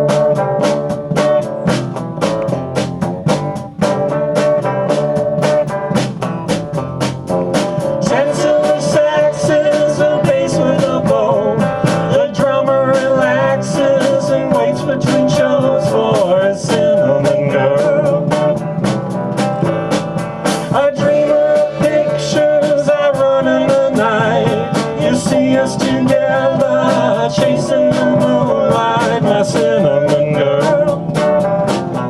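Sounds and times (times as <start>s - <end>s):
live band playing: 0.0s - 32.0s
steady drum beat: 0.0s - 32.0s.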